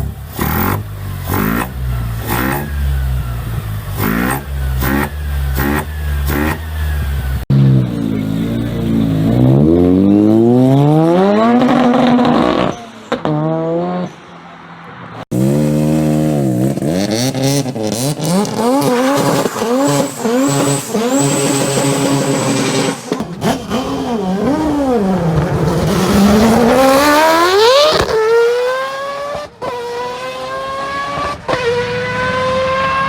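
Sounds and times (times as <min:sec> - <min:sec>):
rotary engine revving: 0:00.3 - 0:14.1, 0:15.3 - 0:33.0.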